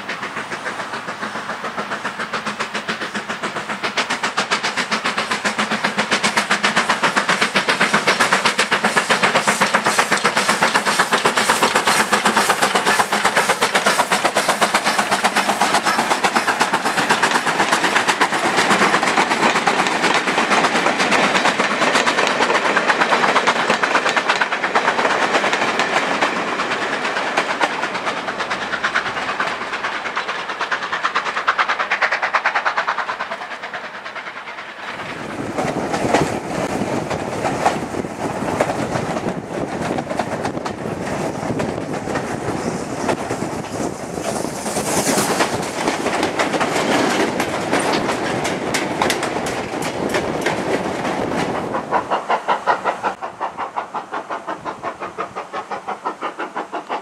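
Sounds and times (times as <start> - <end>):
steam locomotive exhaust beats: 0.0 - 57.0
train wheels clattering on track: 0.0 - 57.0.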